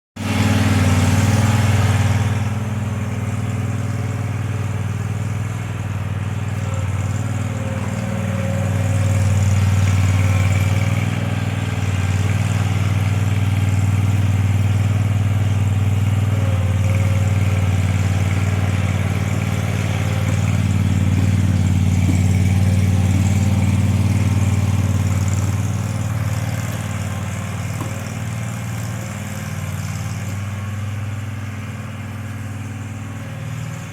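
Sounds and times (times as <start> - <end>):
lawn mower engine humming: 0.2 - 33.9.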